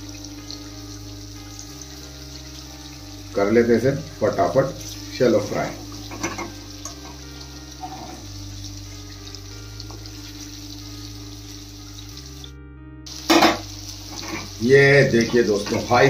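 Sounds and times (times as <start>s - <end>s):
food sizzling in oil: 0.0s - 12.5s, 13.1s - 16.0s
quiet background music: 0.0s - 16.0s.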